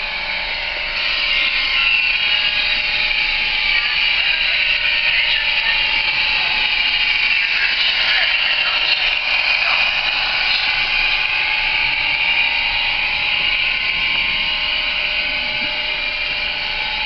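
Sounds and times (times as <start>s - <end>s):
diesel engine sound from speaker: 0.0s - 17.0s.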